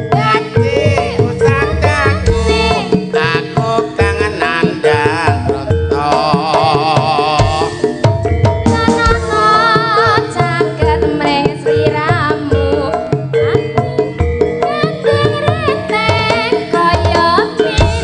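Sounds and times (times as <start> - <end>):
hand drum strokes: 0.0 - 14.8
ornamented sung melody: 0.0 - 18.0
sustained metallophone notes: 0.0 - 18.0.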